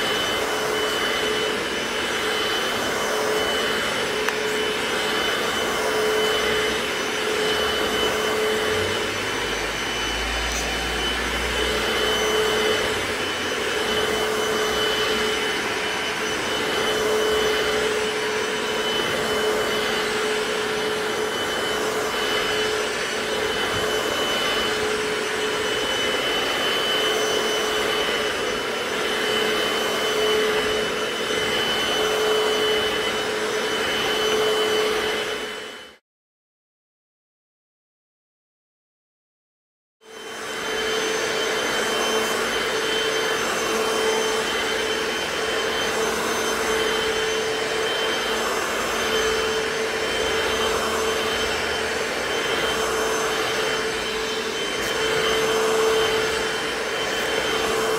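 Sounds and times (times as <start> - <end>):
floor cleaner motor humming: 0.0 - 36.0, 40.0 - 57.9.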